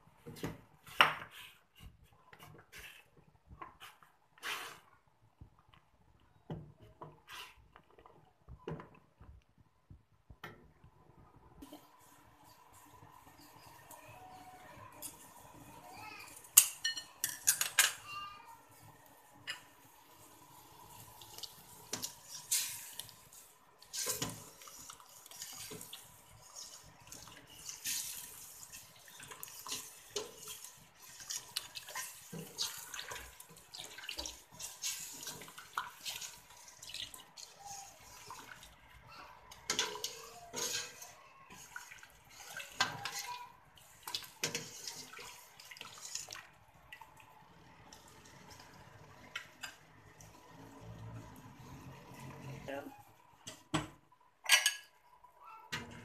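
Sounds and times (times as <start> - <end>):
broth stirred and sloshing in pot: 0.0 - 53.8.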